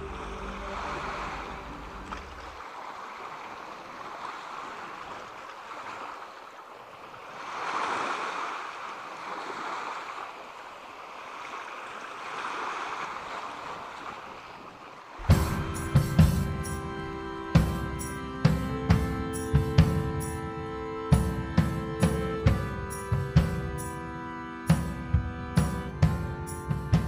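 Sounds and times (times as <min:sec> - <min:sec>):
sea waves washing in: 0:00.0 - 0:27.0.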